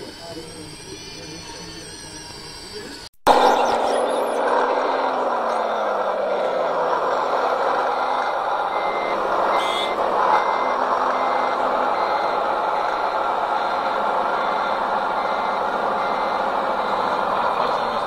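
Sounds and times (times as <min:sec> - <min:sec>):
reversing beeper: 0:00.0 - 0:18.0.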